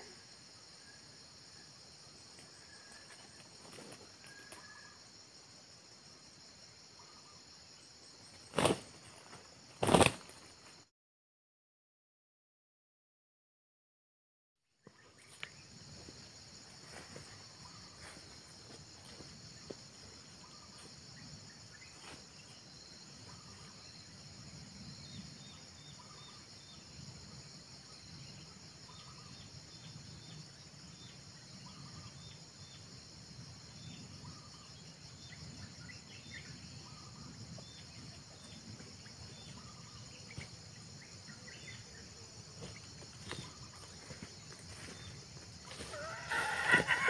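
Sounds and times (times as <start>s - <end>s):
insect drone: 0.0s - 10.9s, 14.8s - 47.0s.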